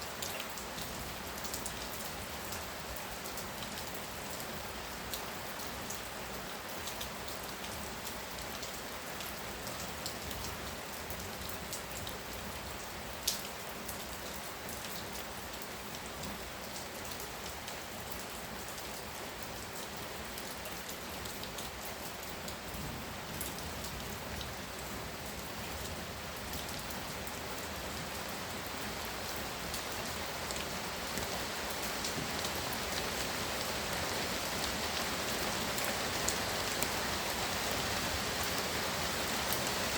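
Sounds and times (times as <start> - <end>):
heavy rain pouring: 0.0 - 39.9
raindrops ticking on a surface: 0.0 - 39.9.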